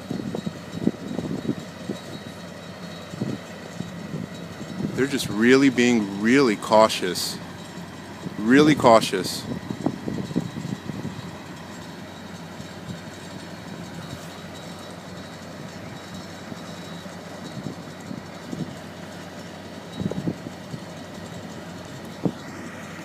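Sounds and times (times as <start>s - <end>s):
crane engine idling: 0.0s - 23.0s.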